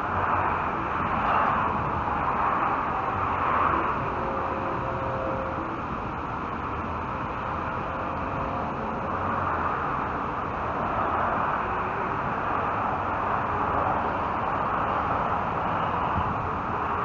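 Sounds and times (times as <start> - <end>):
road traffic hiss and rumble: 0.0 - 17.0.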